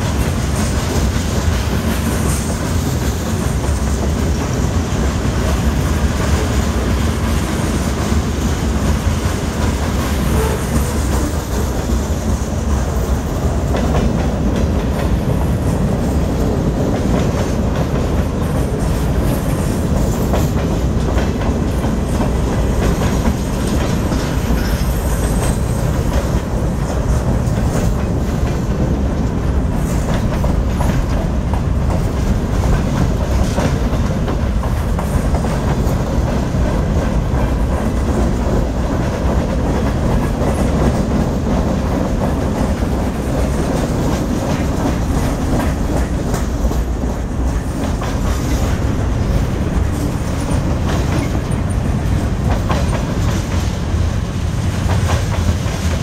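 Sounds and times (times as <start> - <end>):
train wheels rumbling on rail: 0.0 - 56.0
wheels clickety-clack on rail joints: 0.0 - 56.0.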